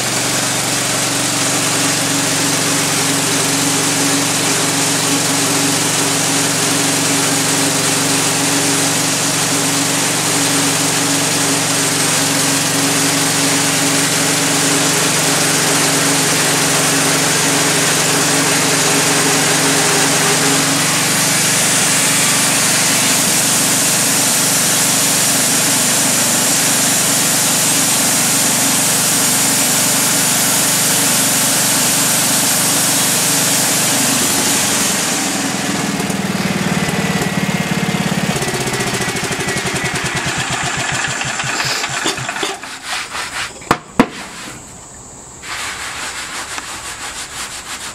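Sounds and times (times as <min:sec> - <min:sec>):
band saw blade cutting log: 0:00.0 - 0:37.4, 0:38.0 - 0:44.7
sawmill engine running: 0:00.0 - 0:45.0.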